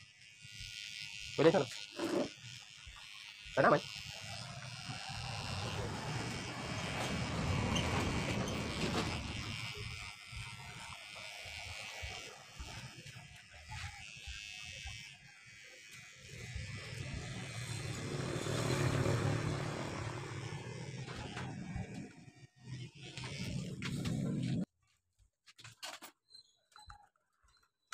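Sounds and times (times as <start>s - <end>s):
electric hair clippers buzzing: 0.0s - 24.6s.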